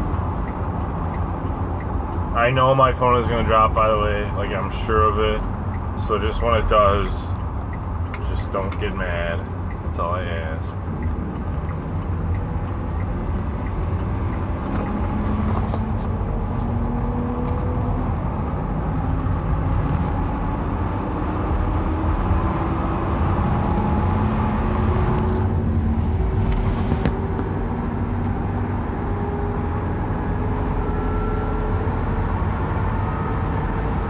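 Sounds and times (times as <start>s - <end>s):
low road rumble: 0.0s - 34.0s.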